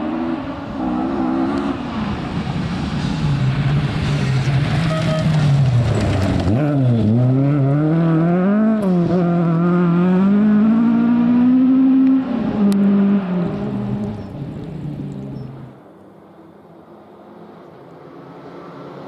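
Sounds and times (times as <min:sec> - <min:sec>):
rally car engine revving: 0:00.0 - 0:15.8.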